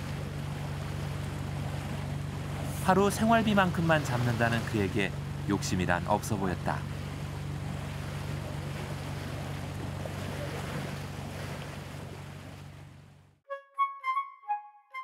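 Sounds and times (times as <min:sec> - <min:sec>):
splashing water: 0:00.0 - 0:13.1
boat engine low hum: 0:00.0 - 0:13.4
wind: 0:00.0 - 0:13.4.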